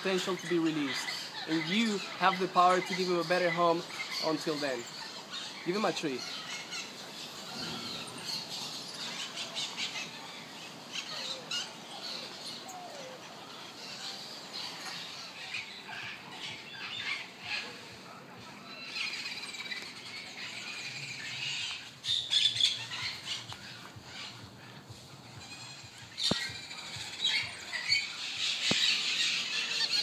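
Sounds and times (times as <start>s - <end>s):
animal chirps and squeals: 0.0s - 30.0s.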